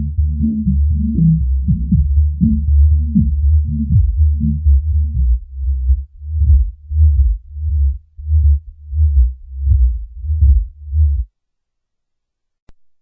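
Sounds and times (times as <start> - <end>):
deep bass pulse: 0.0 - 11.3.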